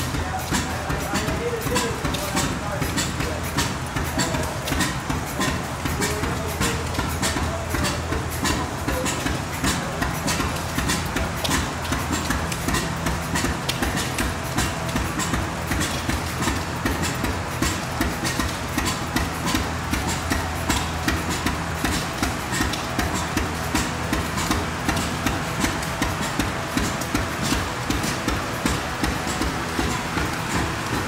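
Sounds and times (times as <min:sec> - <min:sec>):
old gas engines popping: 0:00.0 - 0:31.0.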